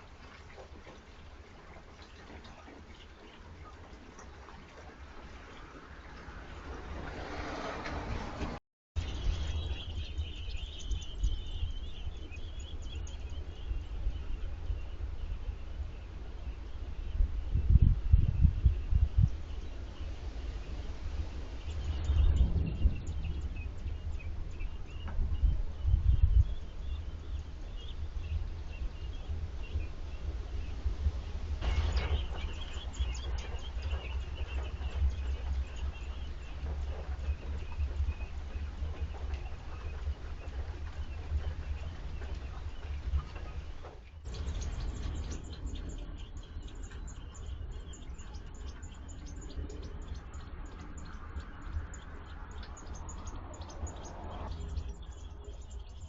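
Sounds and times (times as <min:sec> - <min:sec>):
low rumble: 0:06.7 - 0:56.0
high chirps of nestlings: 0:09.0 - 0:20.2, 0:21.5 - 0:56.0.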